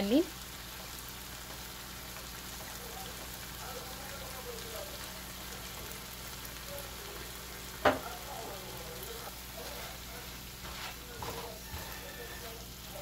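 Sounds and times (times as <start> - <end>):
meat frying in a pan: 0.0 - 13.0.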